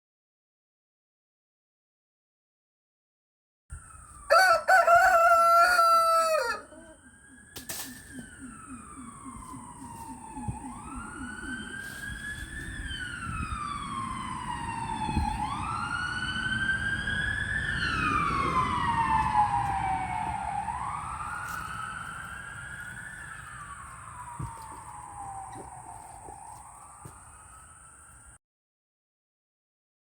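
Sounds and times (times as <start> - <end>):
emergency vehicle siren wailing: 3.7 - 28.4.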